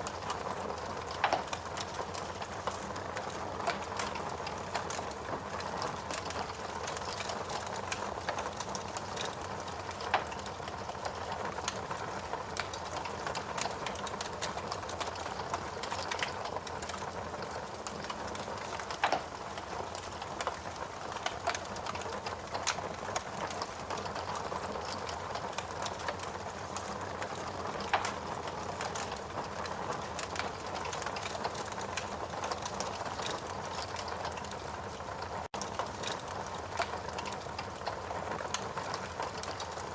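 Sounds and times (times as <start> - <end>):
wood fire crackling: 0.0 - 39.9
fire pops: 0.1 - 11.8, 12.5 - 34.6, 35.6 - 39.8.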